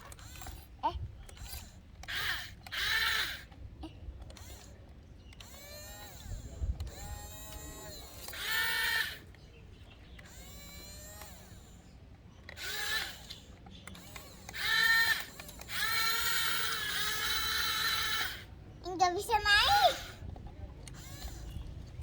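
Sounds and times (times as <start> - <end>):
toy excavator motors whining: 0.0 - 22.0.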